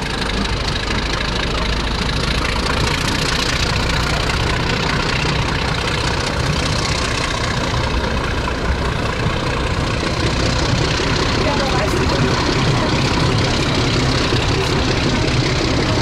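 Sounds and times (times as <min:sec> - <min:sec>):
train engine drone and rumble: 0:00.0 - 0:16.0.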